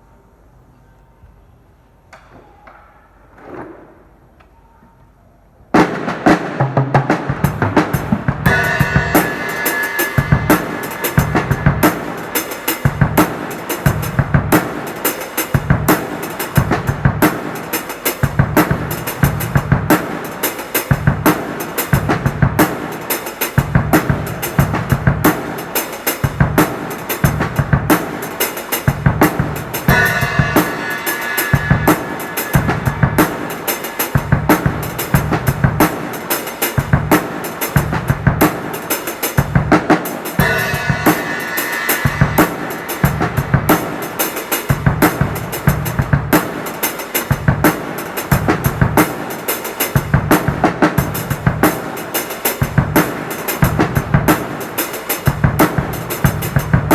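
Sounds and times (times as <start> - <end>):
drum kit groove: 5.7 - 56.9.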